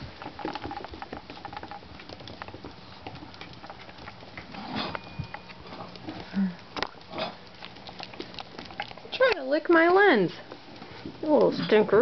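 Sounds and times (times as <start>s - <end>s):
paw clicks and patters: 0.0s - 11.6s.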